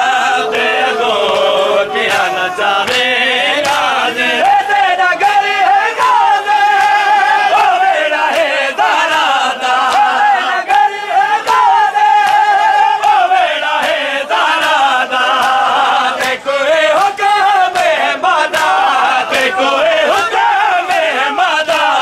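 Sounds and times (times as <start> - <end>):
lead reciter chanting: 0.0 - 22.0
men chanting a lament: 0.0 - 22.0.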